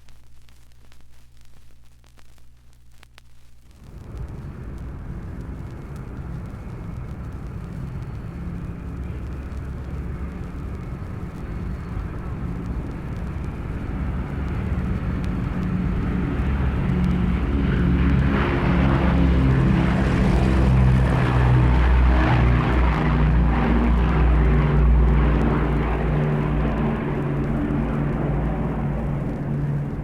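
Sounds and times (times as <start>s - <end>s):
engine drone: 3.8s - 30.0s.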